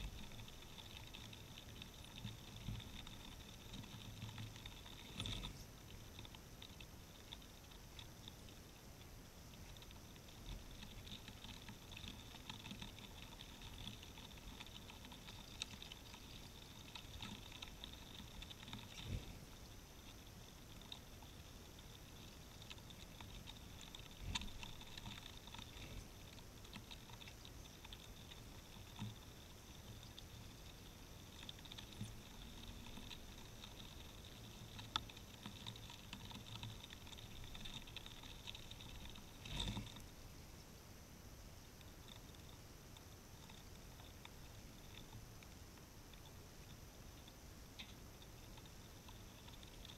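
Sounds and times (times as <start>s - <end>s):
tiny clicks and ticks: 0.0s - 40.7s, 41.3s - 49.9s.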